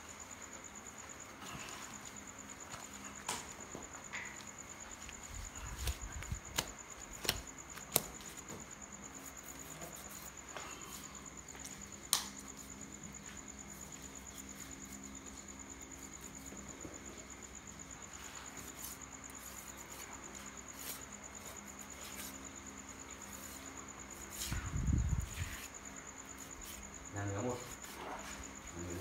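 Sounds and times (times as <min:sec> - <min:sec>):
cricket trilling: 0:00.0 - 0:29.0.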